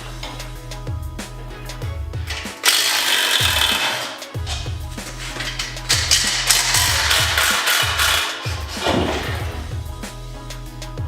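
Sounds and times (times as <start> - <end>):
harsh rasping hiss: 0.0 - 11.0
music with deep sliding bass: 0.0 - 11.0.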